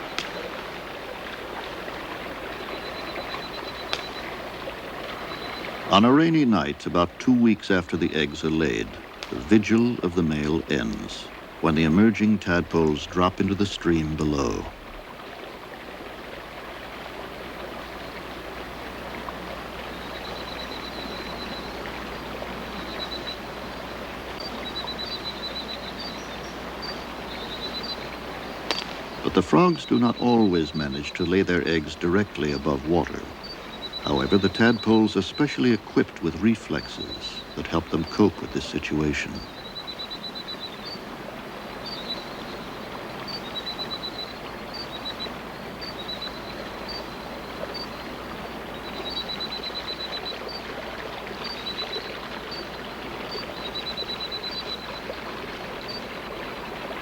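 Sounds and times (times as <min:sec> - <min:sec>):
falling rain: 0:00.0 - 0:57.0
running water: 0:00.0 - 0:57.0
stream rushing: 0:00.0 - 0:57.0.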